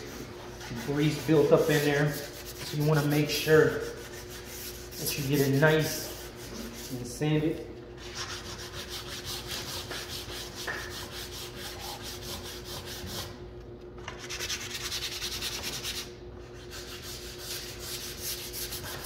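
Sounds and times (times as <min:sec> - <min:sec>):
sandpaper rasping on wood: 0:00.0 - 0:07.0, 0:08.0 - 0:13.3, 0:14.2 - 0:19.0.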